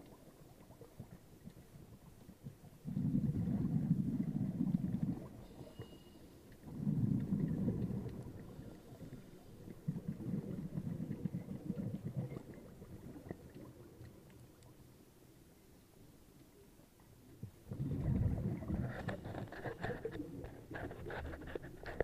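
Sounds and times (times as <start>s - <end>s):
underwater bubbling bursts: 0.0s - 5.8s, 6.4s - 15.0s, 17.2s - 22.0s
faint crackling: 0.0s - 22.0s.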